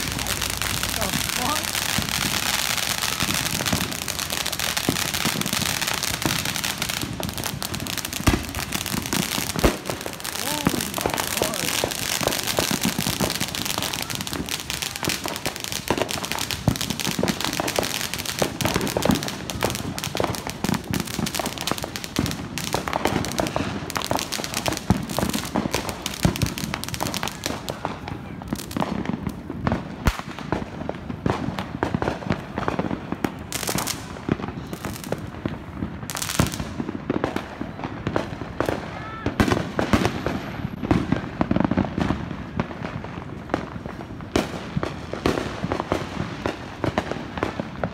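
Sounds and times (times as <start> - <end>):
firecrackers crackling: 0.0 - 47.9
firework bangs: 0.0 - 47.9.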